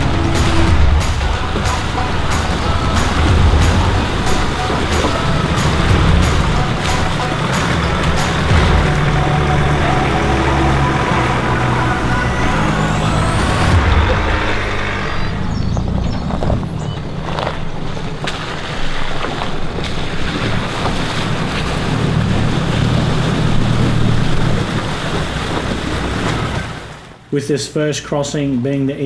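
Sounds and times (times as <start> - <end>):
vehicle engine running: 0.0 - 26.9.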